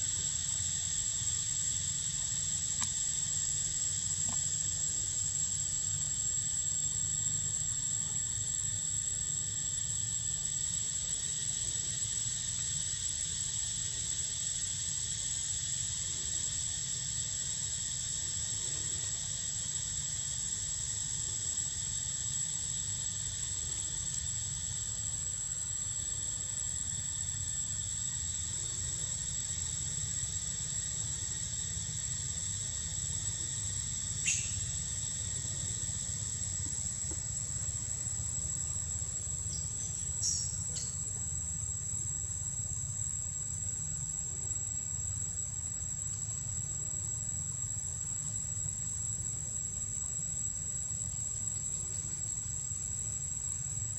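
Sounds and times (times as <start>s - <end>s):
forest insects droning: 0.0s - 53.9s.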